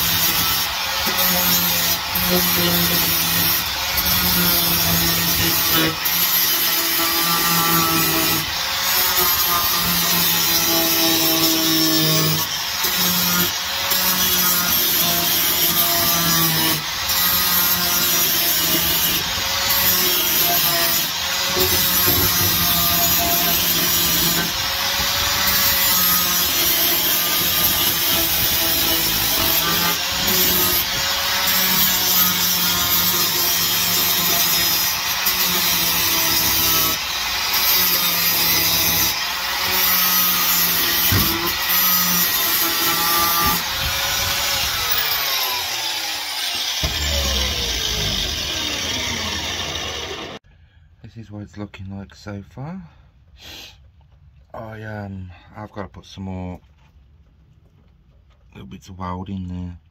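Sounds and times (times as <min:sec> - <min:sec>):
angle grinder grinding metal: 0:00.0 - 0:50.4.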